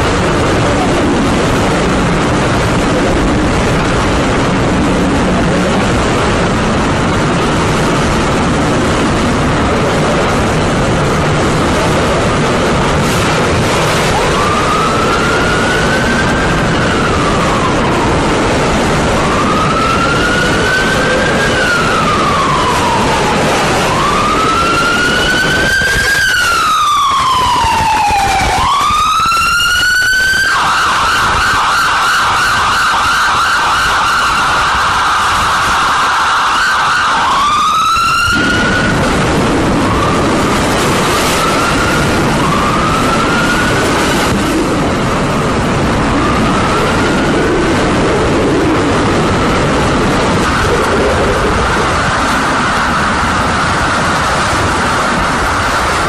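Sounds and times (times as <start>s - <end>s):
emergency siren wailing: 0.0s - 56.0s
steady rushing noise: 0.0s - 56.0s.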